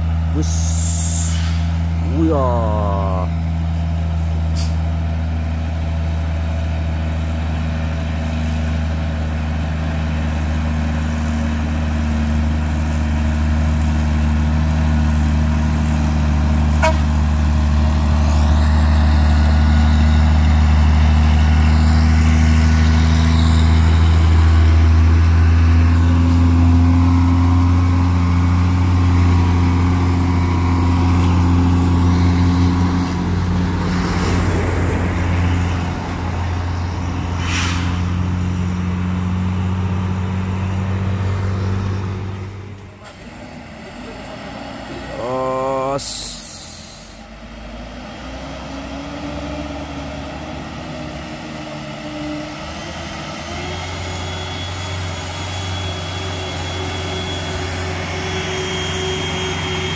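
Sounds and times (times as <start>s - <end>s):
truck diesel engine droning: 0.0s - 59.9s.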